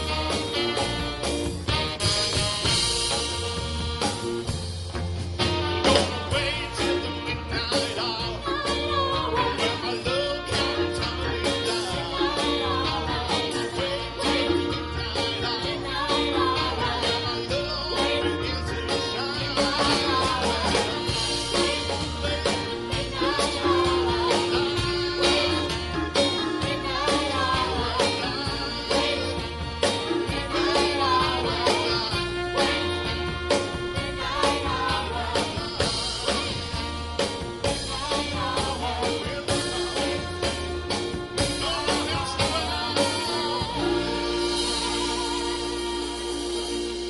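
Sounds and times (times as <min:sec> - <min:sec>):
drum kit: 0:00.0 - 0:47.0
guitar: 0:00.0 - 0:47.0
saxophone and trumpet section: 0:00.0 - 0:47.0
backing vocalists singing: 0:05.5 - 0:47.0
lead singer singing: 0:05.7 - 0:47.0.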